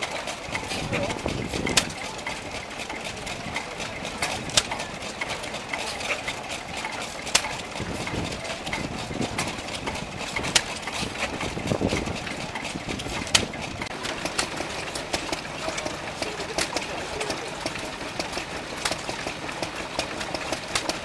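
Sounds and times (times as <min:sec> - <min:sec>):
light engine ticks: 0:00.0 - 0:21.0
stationary engines running slowly: 0:00.0 - 0:21.0.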